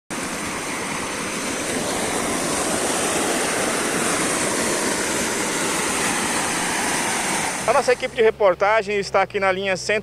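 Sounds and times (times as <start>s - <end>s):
floodwater rushing through culvert: 0.1s - 9.2s.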